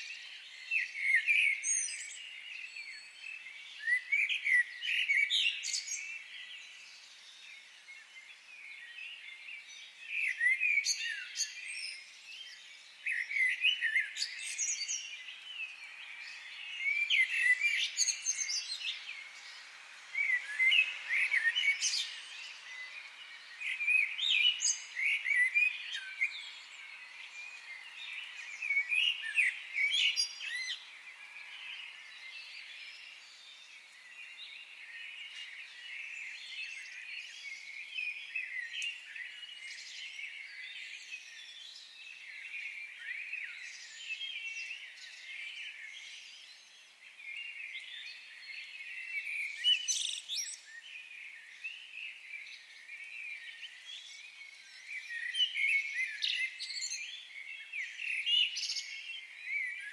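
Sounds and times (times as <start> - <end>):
birds chirping and singing: 0.0 - 59.9
faint high hiss: 0.0 - 59.9.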